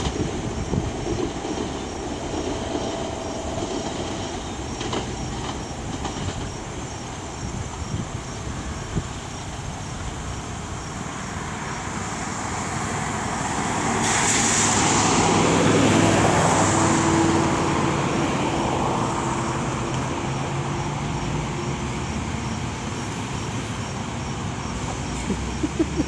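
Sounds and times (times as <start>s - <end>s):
steady engine hum: 0.0s - 26.0s
vehicles passing: 0.0s - 26.0s.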